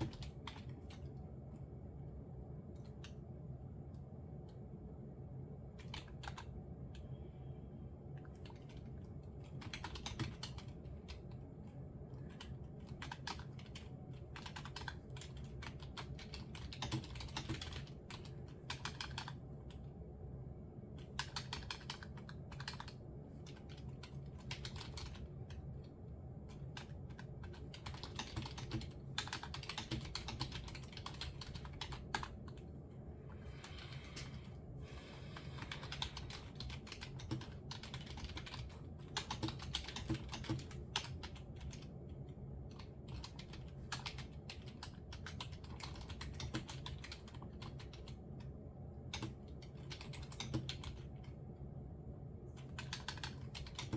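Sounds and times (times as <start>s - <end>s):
typing on computer keyboard: 0.0s - 1.1s, 5.7s - 7.1s, 8.2s - 19.9s, 20.9s - 32.7s, 35.6s - 51.4s, 52.5s - 53.9s
steady low hum: 0.0s - 53.9s.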